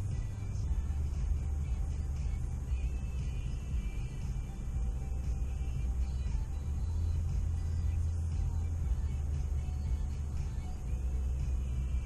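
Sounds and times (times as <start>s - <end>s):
faint music: 0.0s - 12.0s
low rumble inside car: 0.0s - 12.0s.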